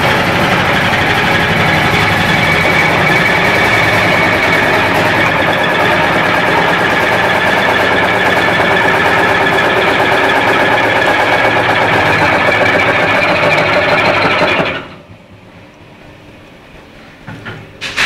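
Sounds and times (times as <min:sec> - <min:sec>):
whining tones: 0:00.0 - 0:15.0
centrifuge machine hum: 0:00.0 - 0:16.6.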